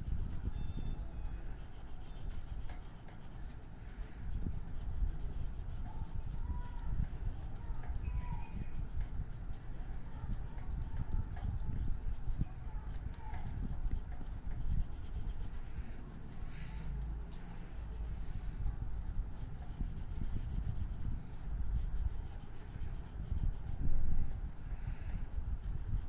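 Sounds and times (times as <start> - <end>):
drawing tool rubbing on paper: 0.0 - 0.6, 1.3 - 16.8, 17.4 - 18.6, 19.2 - 26.0.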